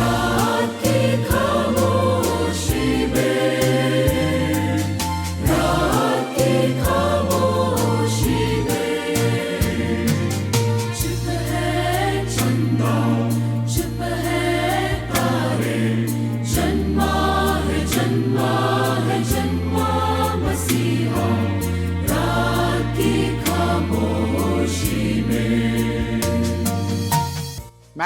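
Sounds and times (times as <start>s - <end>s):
choir singing a carol: 0.0s - 27.0s
bass line: 0.0s - 27.3s
percussion beat: 0.0s - 28.0s.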